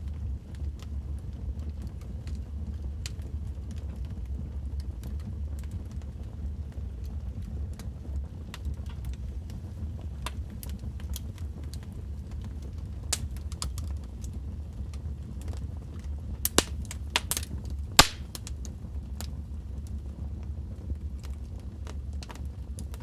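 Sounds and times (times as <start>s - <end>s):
fireplace fire crackling and popping: 0.0s - 23.0s.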